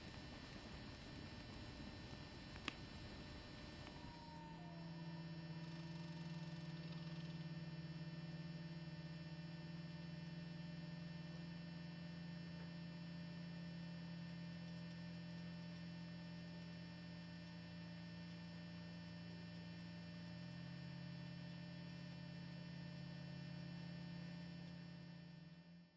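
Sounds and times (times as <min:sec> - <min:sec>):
deeper hum tone: 0:00.0 - 0:25.9
steady low hum: 0:00.0 - 0:25.9.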